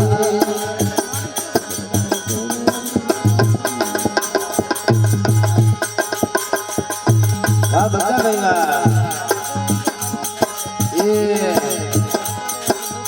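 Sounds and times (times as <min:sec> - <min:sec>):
hand drum beat: 0:00.0 - 0:13.0.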